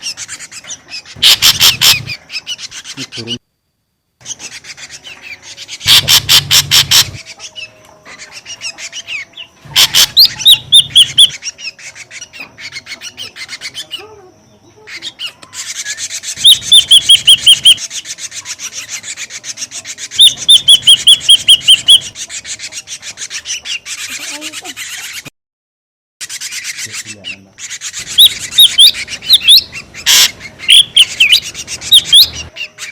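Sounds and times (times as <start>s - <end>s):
bird harsh rasping notes: 0.0s - 3.4s, 4.2s - 25.3s, 26.2s - 32.9s
bird high chirps: 0.0s - 3.4s, 4.2s - 25.3s, 26.2s - 32.9s.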